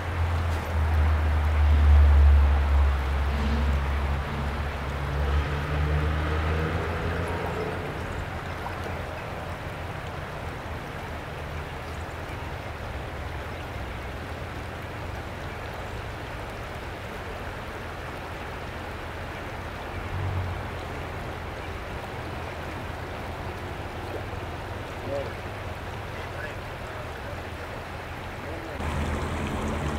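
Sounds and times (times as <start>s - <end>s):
creek water over rocks: 0.0s - 29.9s.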